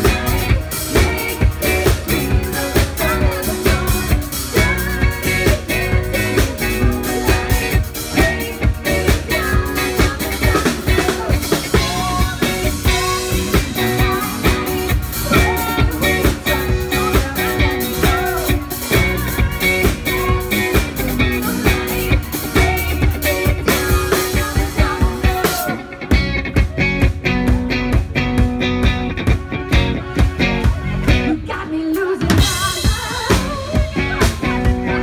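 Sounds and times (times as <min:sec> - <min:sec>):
woman singing: 0:00.0 - 0:26.0, 0:29.3 - 0:35.0
live pop-rock band: 0:00.0 - 0:35.0.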